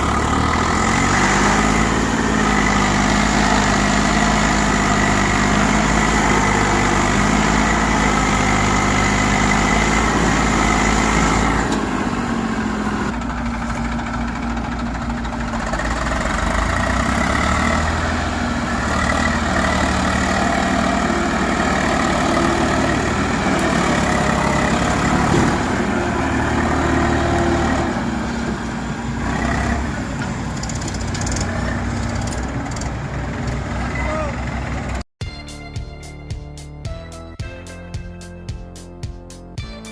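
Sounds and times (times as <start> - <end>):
tractor engine under load: 0.0 - 35.1.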